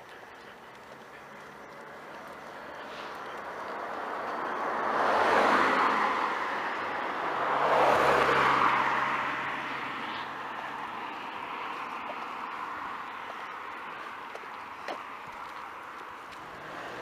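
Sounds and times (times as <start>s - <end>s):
cars passing on asphalt: 0.0s - 17.0s.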